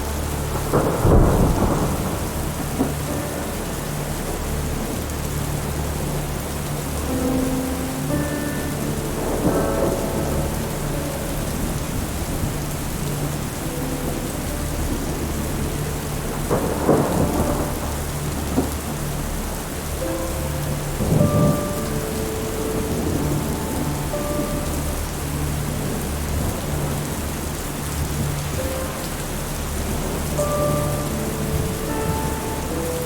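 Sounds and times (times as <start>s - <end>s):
low drone: 0.0s - 33.0s
soft sustained music notes: 0.0s - 33.0s
steady rain: 0.0s - 33.0s
thunder rolling: 0.0s - 33.0s.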